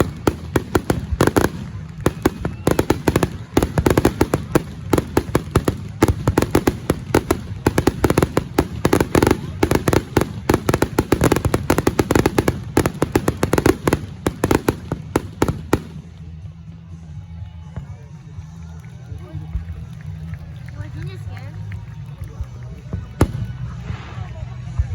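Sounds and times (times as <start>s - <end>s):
fireworks crackling and popping: 0.0s - 16.4s, 21.1s - 24.9s.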